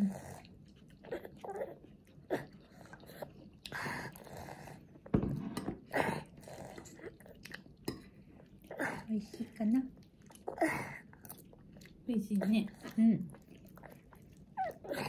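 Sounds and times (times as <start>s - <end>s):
toddler chewing: 0.0s - 5.1s, 5.8s - 15.0s.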